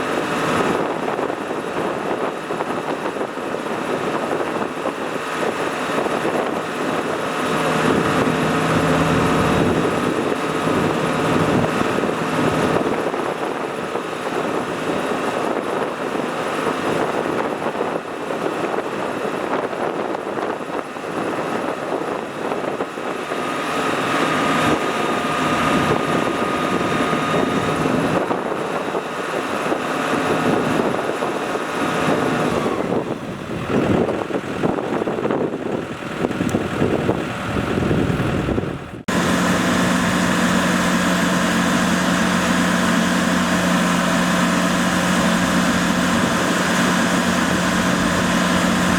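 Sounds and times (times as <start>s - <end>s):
diesel farm machinery running: 0.0s - 48.9s.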